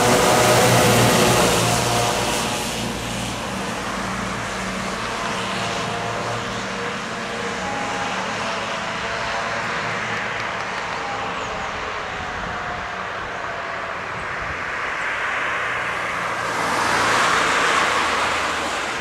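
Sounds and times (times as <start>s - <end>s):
fire engine diesel engine: 0.0s - 19.0s
tyres on road: 0.0s - 19.0s.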